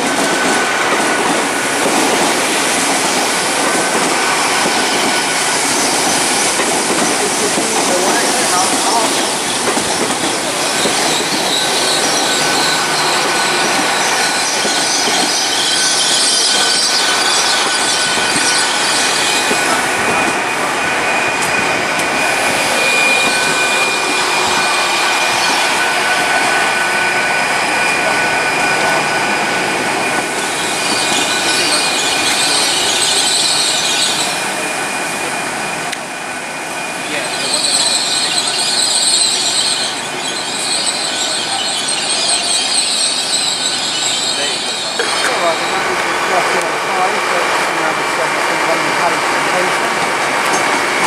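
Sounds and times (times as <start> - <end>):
train wheels squealing: 3.6 - 35.4, 36.8 - 47.4.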